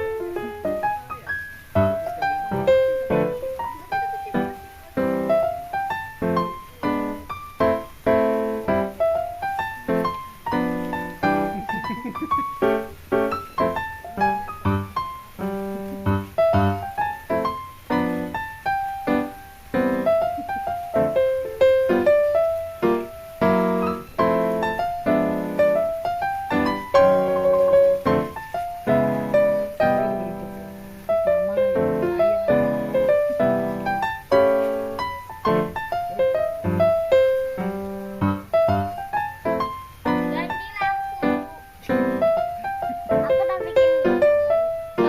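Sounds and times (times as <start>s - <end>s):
solo piano music: 0.0s - 45.0s.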